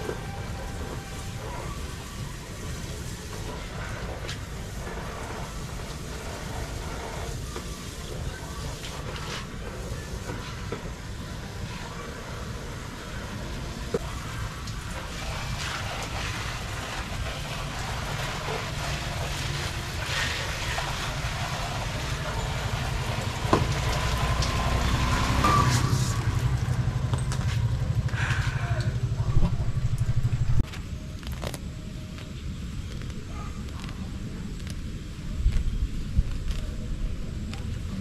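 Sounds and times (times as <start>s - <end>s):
motor vehicle engine rumble: 0.0s - 38.0s.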